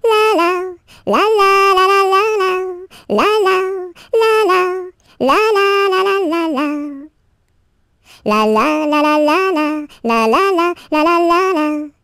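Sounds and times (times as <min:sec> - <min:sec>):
high voice singing wordless melody: 0:00.0 - 0:07.2, 0:08.1 - 0:12.0.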